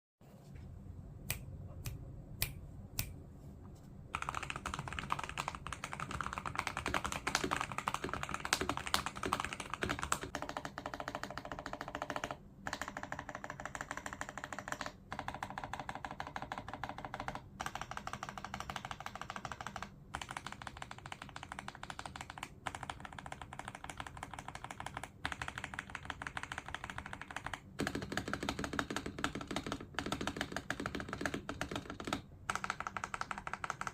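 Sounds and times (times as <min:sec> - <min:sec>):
mechanical keyboard typing: 0:04.2 - 0:33.9.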